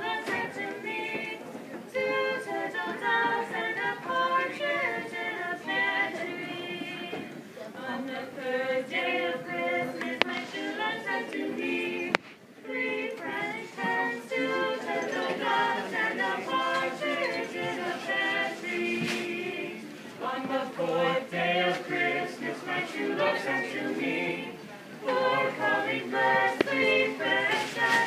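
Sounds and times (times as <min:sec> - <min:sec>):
choir singing in harmony: 0:00.0 - 0:28.0.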